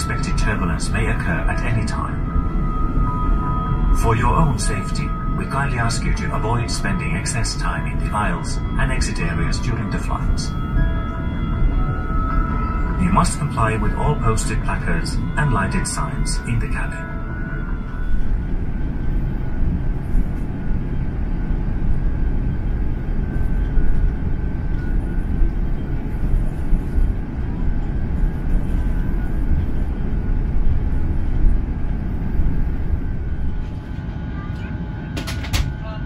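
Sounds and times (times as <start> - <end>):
aircraft cabin rumble: 0.0 - 36.0
faint steady whine: 0.0 - 36.0.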